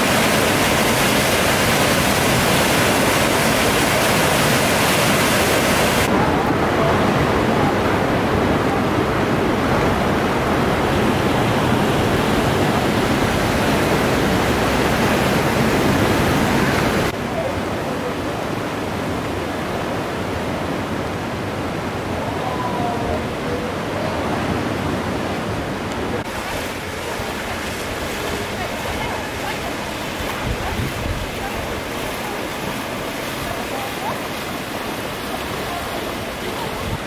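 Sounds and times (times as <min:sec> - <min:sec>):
floodwater rushing through streets: 0:00.0 - 0:37.0.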